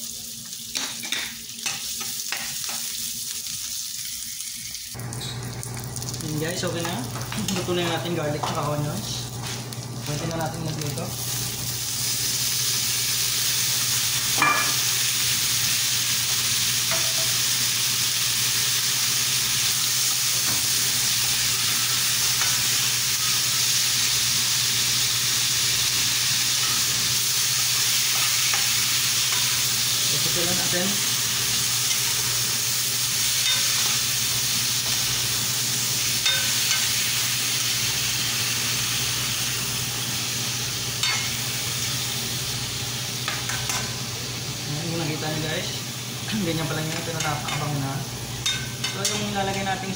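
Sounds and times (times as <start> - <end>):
food sizzling in oil: 0.0 - 49.9.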